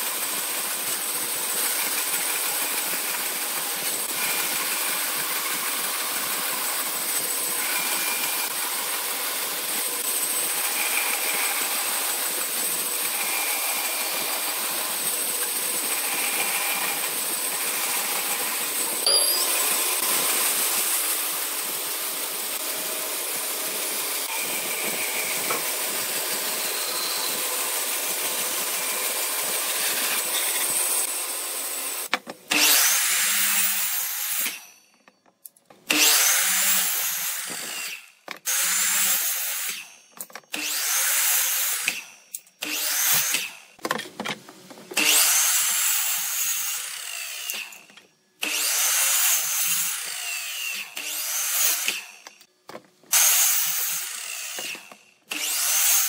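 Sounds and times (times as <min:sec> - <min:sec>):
band saw cutting timber: 0:00.0 - 0:34.8, 0:35.9 - 0:43.8, 0:44.9 - 0:52.5, 0:53.1 - 0:56.0
miter saw cutting wooden strips: 0:00.0 - 0:34.8, 0:35.8 - 0:43.8, 0:44.9 - 0:52.5, 0:53.1 - 0:56.0.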